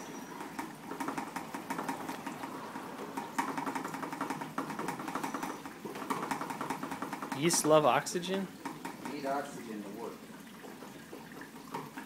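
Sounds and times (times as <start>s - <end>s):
liquid gurgling from hose: 0.0s - 12.0s.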